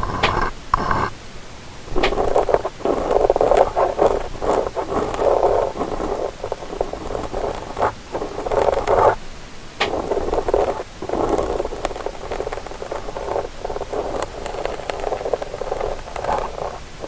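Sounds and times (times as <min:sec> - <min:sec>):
tool scratching in microphone ear: 0:00.0 - 0:01.2, 0:02.0 - 0:09.2, 0:09.8 - 0:17.0.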